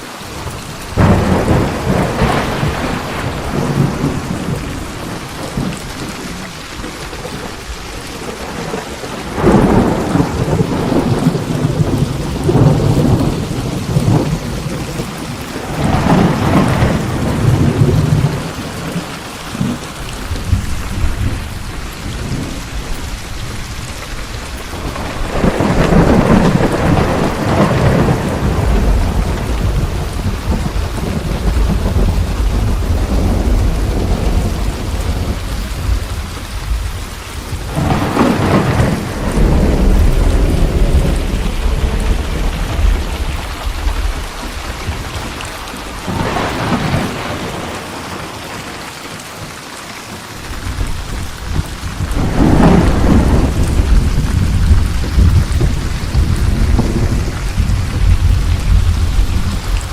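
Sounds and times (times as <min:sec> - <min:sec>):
steady rain: 0:00.0 - 0:59.9
rolling thunder: 0:00.5 - 0:48.7, 0:50.5 - 0:59.9.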